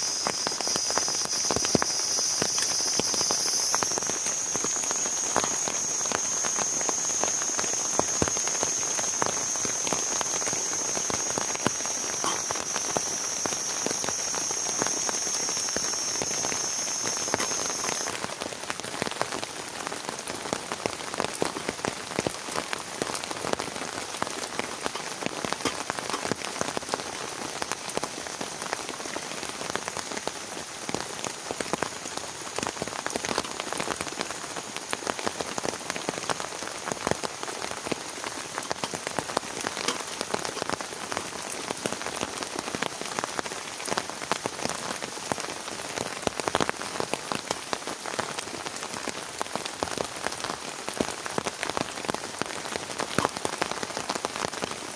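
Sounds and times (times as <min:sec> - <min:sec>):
heavy rain falling: 0:00.0 - 0:54.9
raindrops pattering on a surface: 0:00.0 - 0:54.9.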